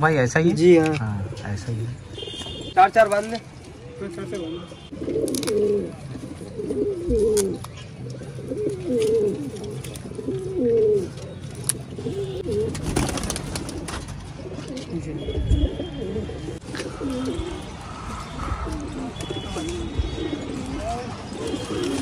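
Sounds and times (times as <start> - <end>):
pigeons cooing: 3.7 - 22.0.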